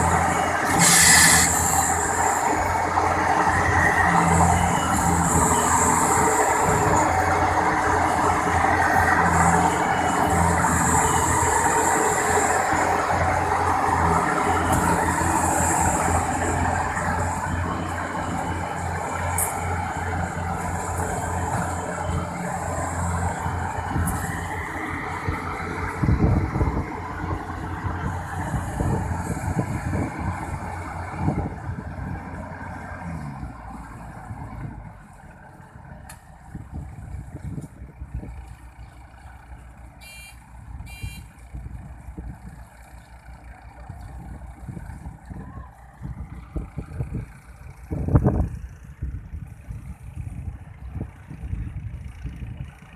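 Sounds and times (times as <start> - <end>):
heavy diesel machinery droning: 0.0 - 52.9.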